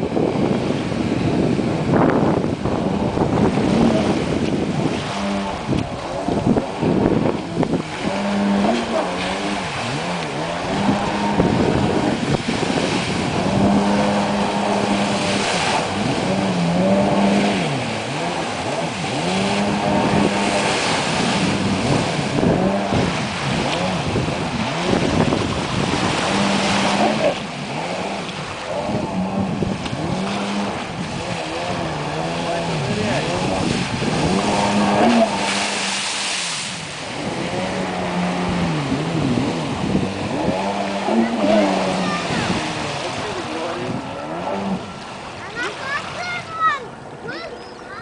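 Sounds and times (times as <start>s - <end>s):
rush of water spray: 0.0s - 47.4s
jet ski engine revving: 0.0s - 48.0s.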